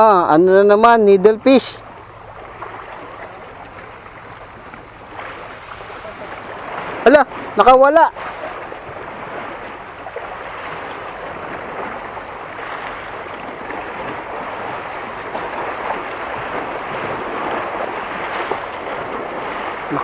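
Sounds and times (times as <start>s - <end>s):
waves washing against rocks: 2.2s - 20.0s.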